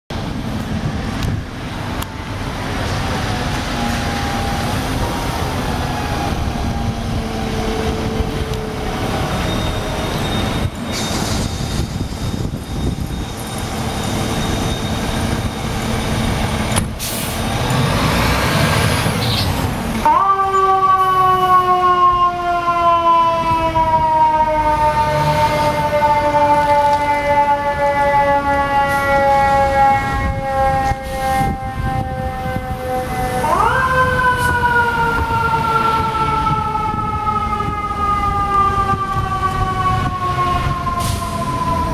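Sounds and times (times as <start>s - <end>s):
siren wail: 1.8s - 10.9s, 11.7s - 19.2s, 20.0s - 41.9s.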